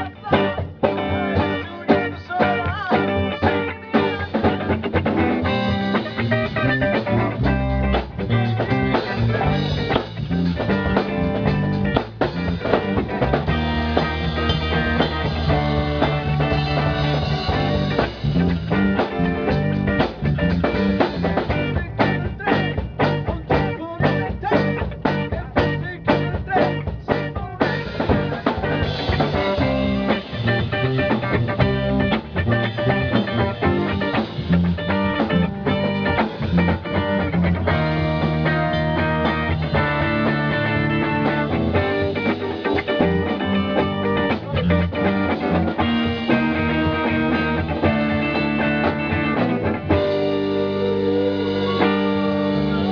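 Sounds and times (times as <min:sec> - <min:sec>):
live blues-rock band playing: 0:00.0 - 0:52.9.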